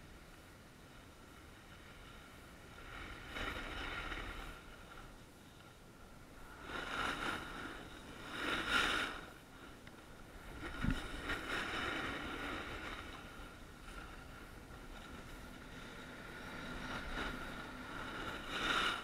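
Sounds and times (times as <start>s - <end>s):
wind on microphone: 1.3s - 5.2s, 5.9s - 19.0s
snow scraping under skis: 1.7s - 5.1s, 6.4s - 19.0s.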